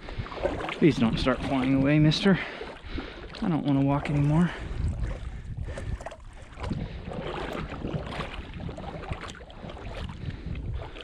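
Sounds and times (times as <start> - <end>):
sloshing steps in shallow water: 0.0 - 11.0.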